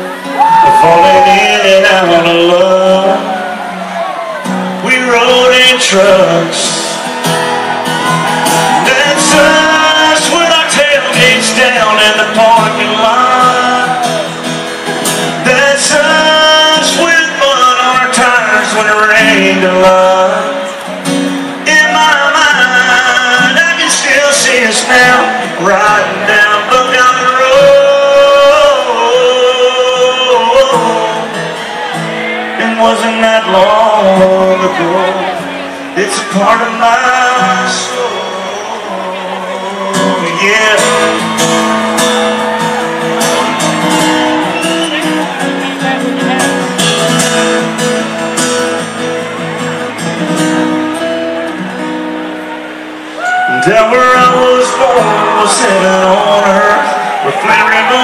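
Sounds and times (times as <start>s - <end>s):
man singing: 0.0s - 7.2s, 8.6s - 48.8s, 53.4s - 58.0s
acoustic guitar and band: 0.0s - 58.0s.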